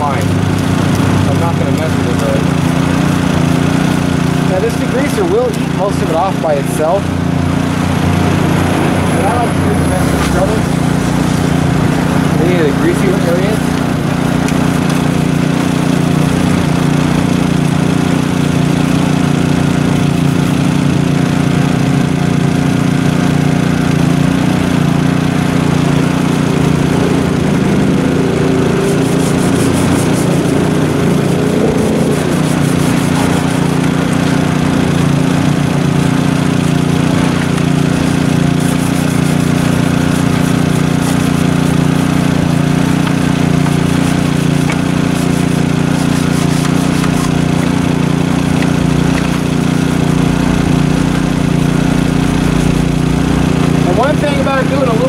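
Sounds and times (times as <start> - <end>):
engine droning steadily: 0.0 - 55.0
spray bottle squirting: 0.2 - 4.5, 13.4 - 53.8.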